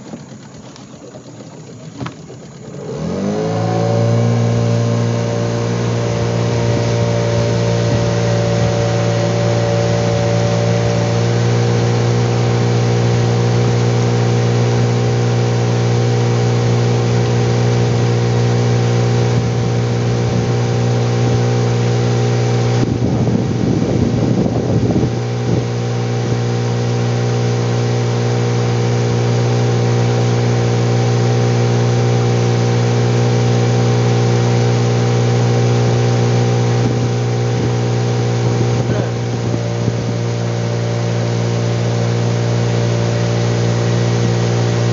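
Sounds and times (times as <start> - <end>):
outboard motor droning: 0.0 - 44.9.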